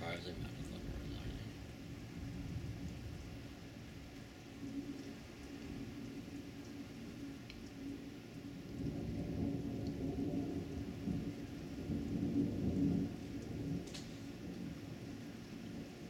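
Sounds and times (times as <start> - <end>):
heavy rain: 0.0 - 16.0
thunder rumbling: 0.0 - 16.0.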